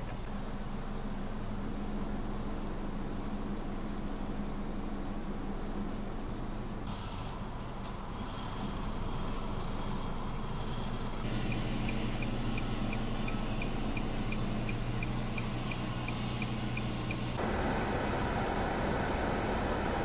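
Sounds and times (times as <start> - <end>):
low engine-like hum: 0.0 - 20.0.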